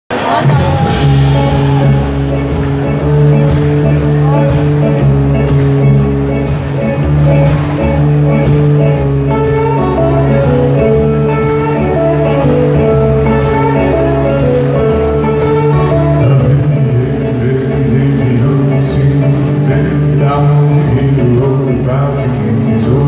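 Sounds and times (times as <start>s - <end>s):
live rock band playing: 0.1s - 23.0s.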